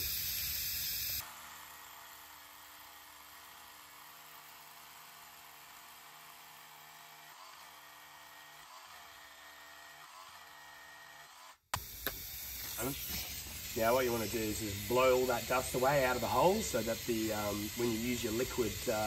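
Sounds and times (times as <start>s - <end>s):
hammer drill motor whine: 0.0s - 19.0s.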